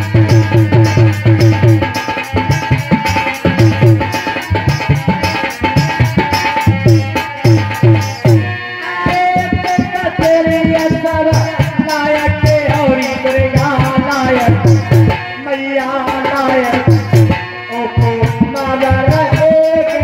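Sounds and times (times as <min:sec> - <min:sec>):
hand drum fast rhythm: 0:00.0 - 0:20.0
jingling percussion: 0:00.0 - 0:20.0.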